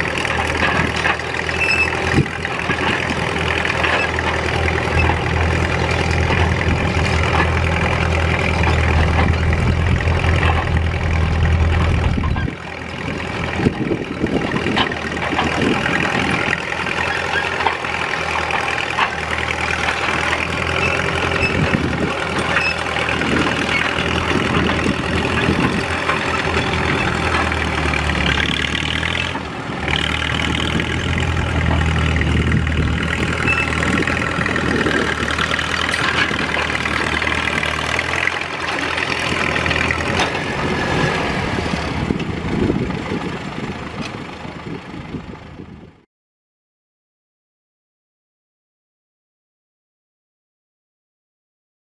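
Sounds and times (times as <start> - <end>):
diesel crawler engine rumbling: 0.0 - 46.1.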